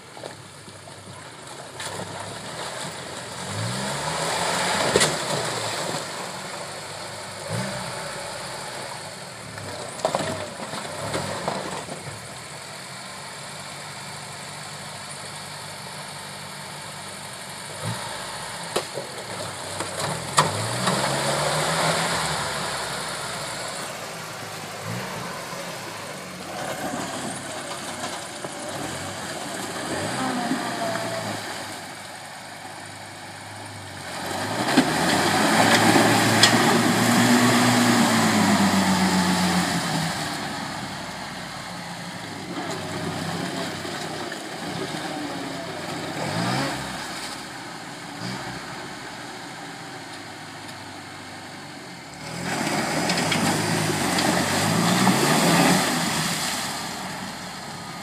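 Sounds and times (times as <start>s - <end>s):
off-road vehicle engine revving: 1.0s - 58.0s.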